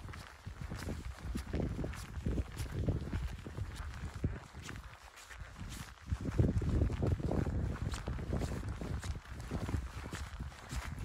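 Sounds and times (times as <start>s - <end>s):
footsteps on wet stony path: 0.0s - 11.0s.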